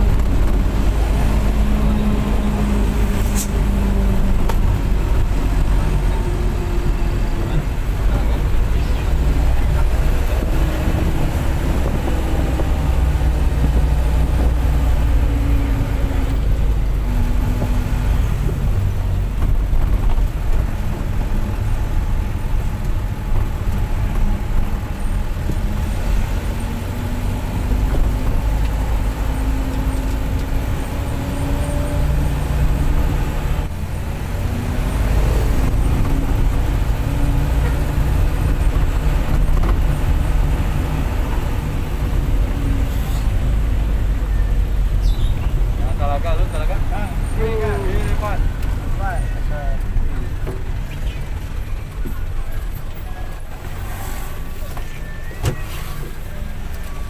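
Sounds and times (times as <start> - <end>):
bus engine running: 0.0 - 57.0
road rumble: 0.0 - 57.0.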